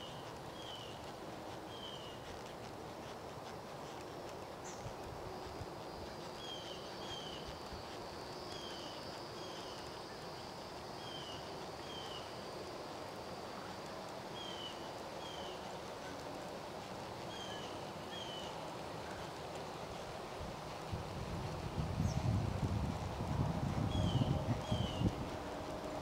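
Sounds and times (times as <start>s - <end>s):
faint steady high whine: 0.0s - 26.0s.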